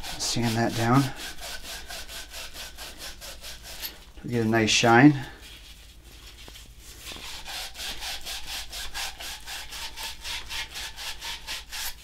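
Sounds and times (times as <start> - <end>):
sandpaper scrubbing metal pipe: 0.0 - 12.0.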